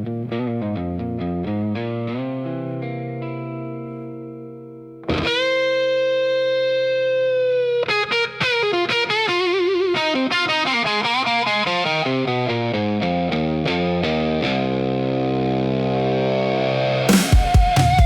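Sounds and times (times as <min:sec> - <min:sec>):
distorted electric guitar solo: 0:00.0 - 0:18.0.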